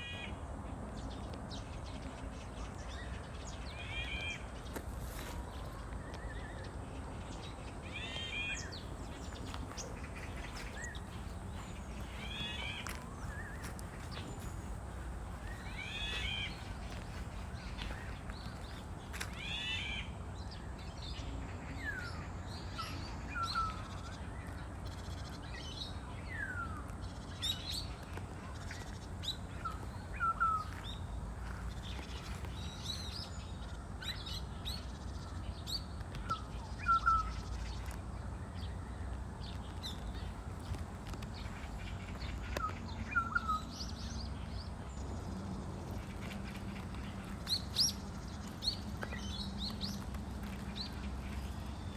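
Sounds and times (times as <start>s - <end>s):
birds chirping: 1.0s - 51.9s.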